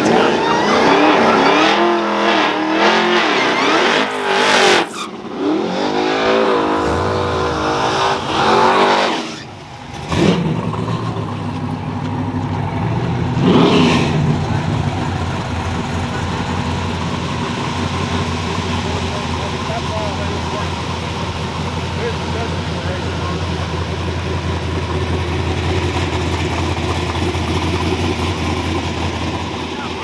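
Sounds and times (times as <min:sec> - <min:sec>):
drag car engine revving: 0:00.0 - 0:30.0.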